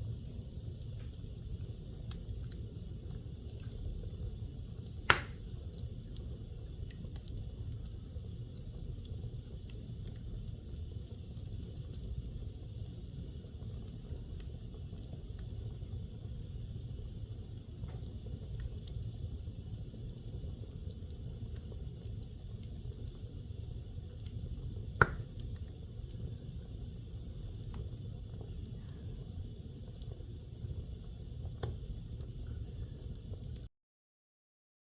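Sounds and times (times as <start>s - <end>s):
fire crackling in fireplace: 0.0s - 33.7s.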